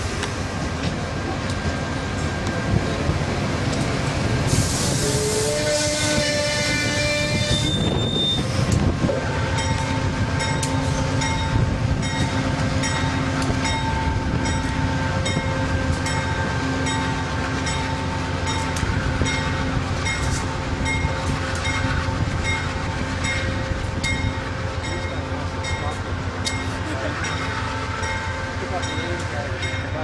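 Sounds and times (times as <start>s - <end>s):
railcars rolling past: 0.0s - 30.0s.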